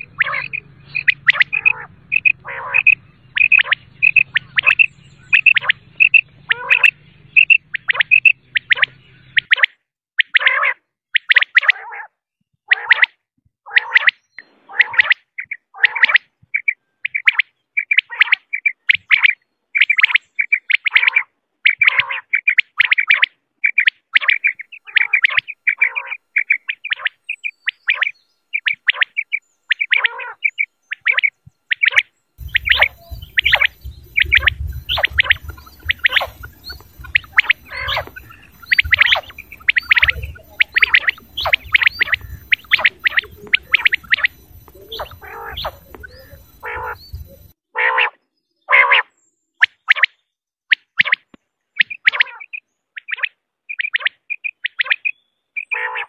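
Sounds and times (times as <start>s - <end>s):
quail calling: 0.0s - 12.1s, 12.7s - 56.0s.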